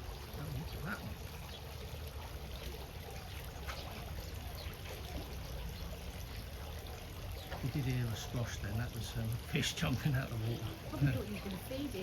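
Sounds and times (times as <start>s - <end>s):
trickling water: 0.0s - 12.0s.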